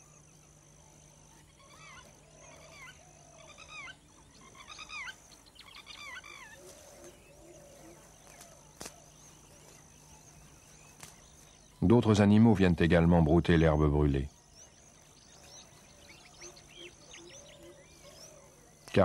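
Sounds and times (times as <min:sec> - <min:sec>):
birds honking: 0:00.0 - 0:19.0
faint high whine: 0:00.0 - 0:19.0.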